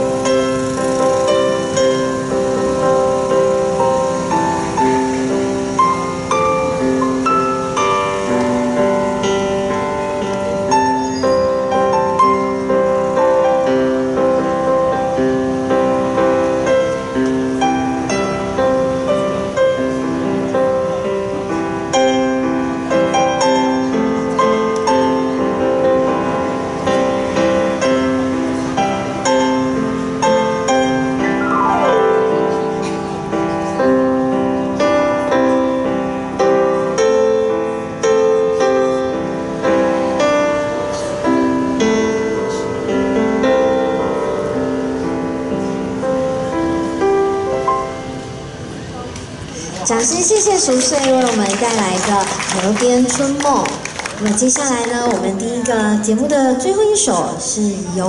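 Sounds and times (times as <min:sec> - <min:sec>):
electronic keyboard piano melody: 0:00.0 - 0:50.5.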